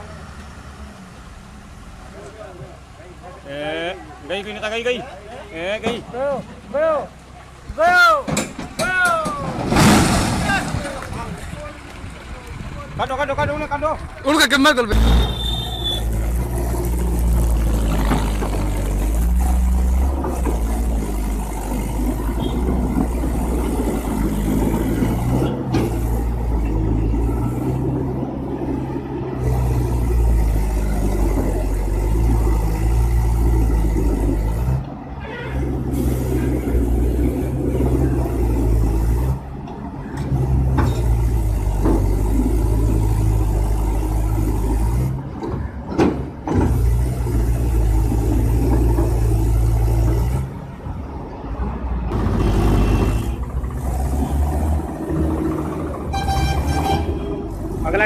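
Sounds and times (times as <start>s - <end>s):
heavy vehicle engine rumbling: 0.0s - 58.0s.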